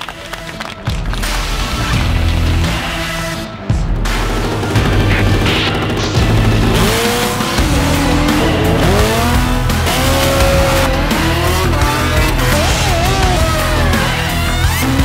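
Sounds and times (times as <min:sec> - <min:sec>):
background music with beat: 0:00.0 - 0:15.0
motorcycle engines revving: 0:00.2 - 0:15.0.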